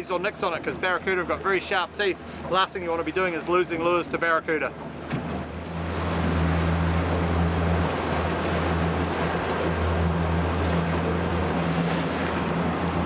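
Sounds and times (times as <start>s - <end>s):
outboard motor humming: 0.0s - 13.0s
water rushing past hull: 0.0s - 13.0s.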